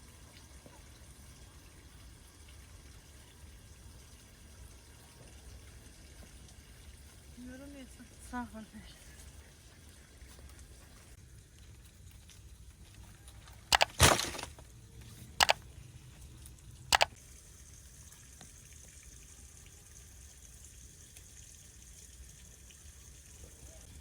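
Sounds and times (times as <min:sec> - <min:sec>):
trickling water: 0:00.0 - 0:24.0.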